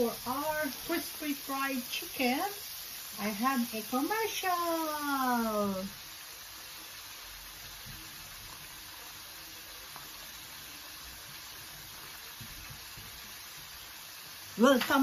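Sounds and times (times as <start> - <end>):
hot oil frying: 0.0 - 15.0.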